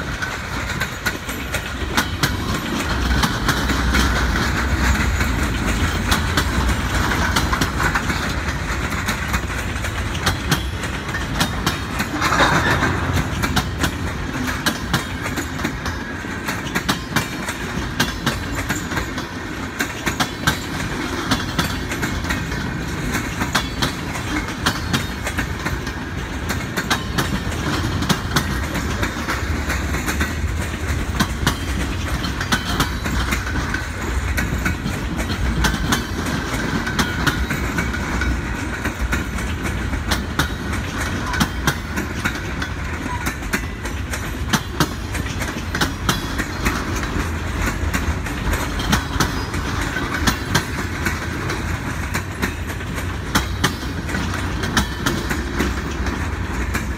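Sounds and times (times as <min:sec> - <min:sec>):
low train rumble: 0:00.0 - 0:56.9
train wheels clacking over rail joints: 0:00.0 - 0:56.9.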